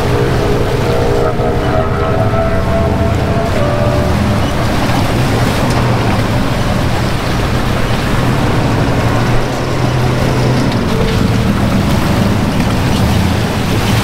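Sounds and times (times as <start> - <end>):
vehicle engine running: 0.0 - 14.0
wind on microphone: 0.0 - 14.0.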